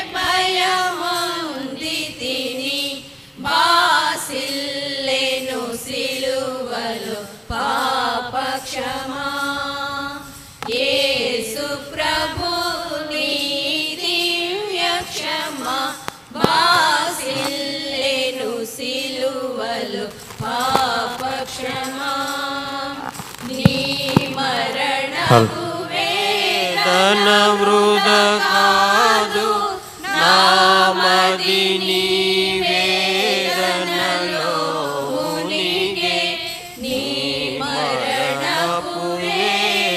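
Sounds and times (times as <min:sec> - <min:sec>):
women singing a hymn: 0:00.0 - 0:39.9.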